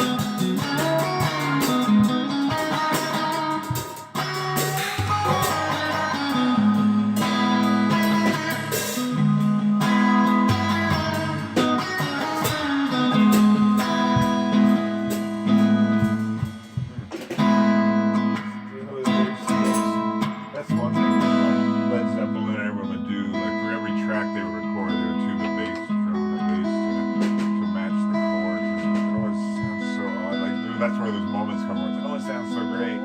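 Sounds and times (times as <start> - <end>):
guitar strumming chords: 0.0 - 33.0.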